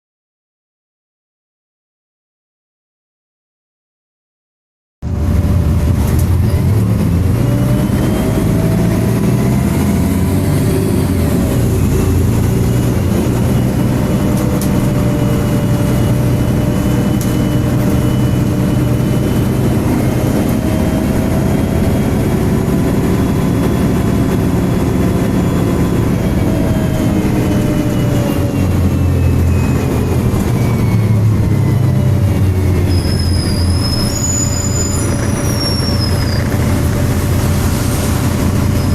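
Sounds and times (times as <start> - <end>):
bus engine rumbling: 5.0 - 38.9.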